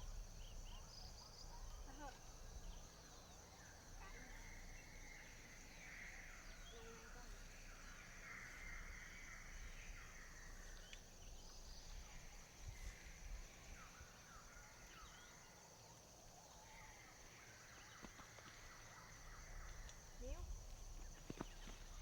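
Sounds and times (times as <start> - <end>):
high-pitched insect hum: 0.0 - 22.0.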